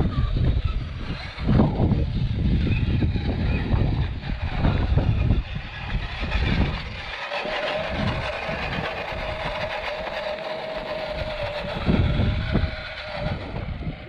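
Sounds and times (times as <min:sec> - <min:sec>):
low rumble: 0:00.0 - 0:14.0
toy car motor whining: 0:00.0 - 0:14.0.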